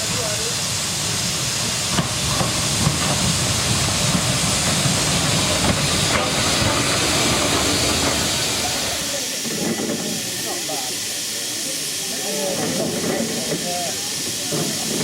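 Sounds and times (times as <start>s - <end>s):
steam engine venting steam: 0.0s - 15.0s.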